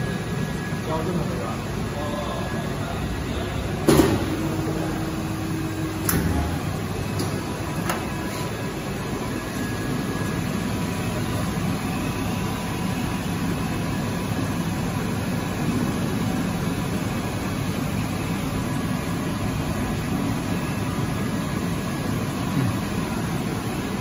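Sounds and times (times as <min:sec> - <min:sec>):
factory machinery humming: 0:00.0 - 0:24.0.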